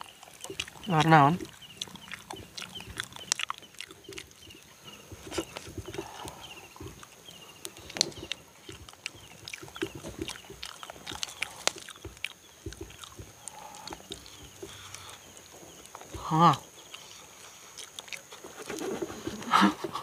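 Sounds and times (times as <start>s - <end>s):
wet chewing and lip-smacking: 0.0s - 19.5s.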